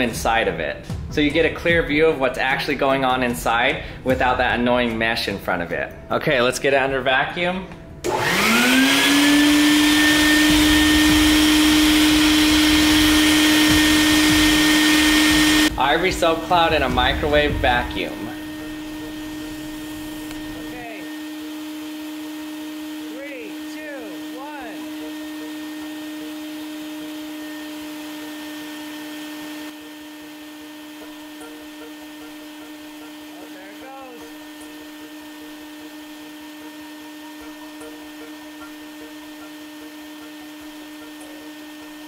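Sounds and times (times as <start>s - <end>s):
shop vacuum running: 7.4s - 42.0s.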